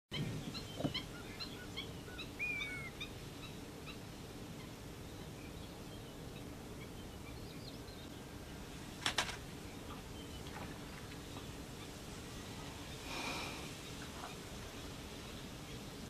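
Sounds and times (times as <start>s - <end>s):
birds chirping: 0.1s - 16.0s
low background noise: 0.1s - 16.0s.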